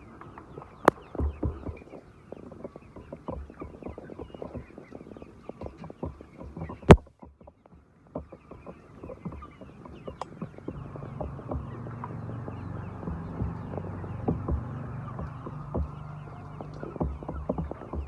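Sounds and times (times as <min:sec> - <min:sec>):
chickens clucking: 0:00.0 - 0:18.0
small knocks and taps: 0:00.6 - 0:16.0, 0:16.6 - 0:18.0.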